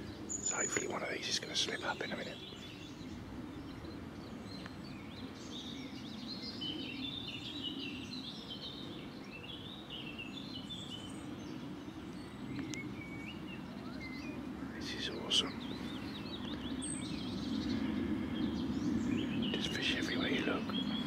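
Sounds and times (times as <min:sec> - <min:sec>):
low outdoor background noise: 0:00.0 - 0:21.0
songbird singing high chirps: 0:00.0 - 0:21.0.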